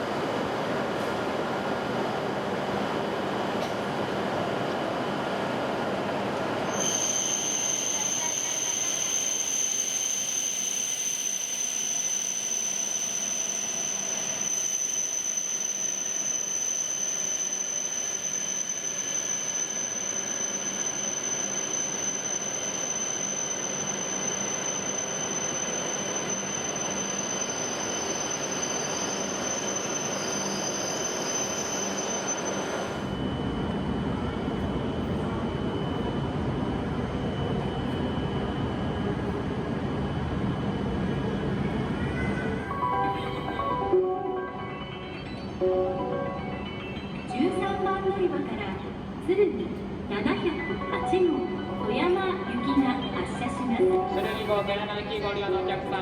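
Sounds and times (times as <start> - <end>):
train high-pitched whine: 0.0 - 56.0
train running noise: 0.0 - 56.0.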